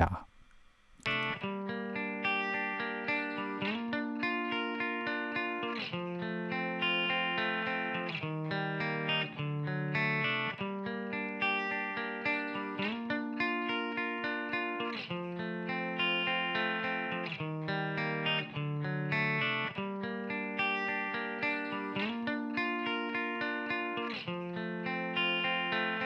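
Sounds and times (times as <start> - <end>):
electric guitar chords: 1.1 - 26.0.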